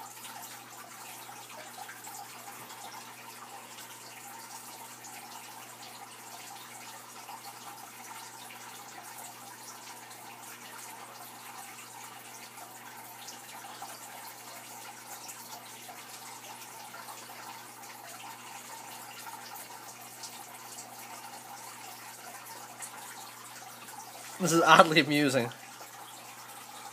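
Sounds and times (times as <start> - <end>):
aquarium water trickling: 0.0 - 26.9
water dripping: 0.0 - 26.9.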